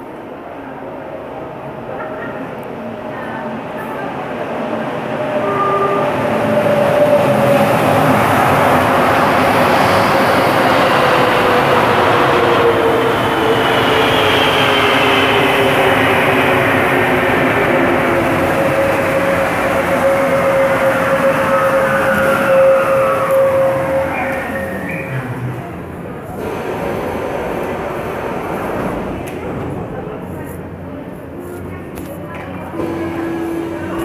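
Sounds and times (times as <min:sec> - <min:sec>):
metro train pulling in: 0:00.0 - 0:34.0.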